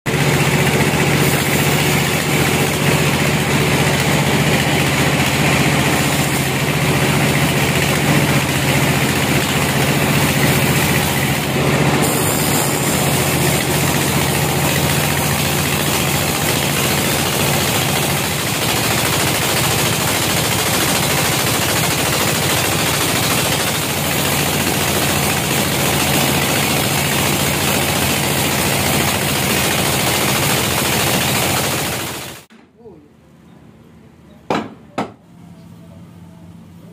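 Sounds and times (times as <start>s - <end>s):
band saw cutting through log: 0.1s - 32.5s.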